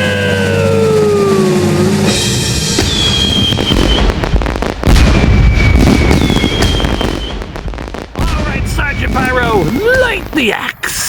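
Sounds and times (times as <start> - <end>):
fireworks booming: 0.0 - 11.0
fireworks whistling: 0.0 - 11.0.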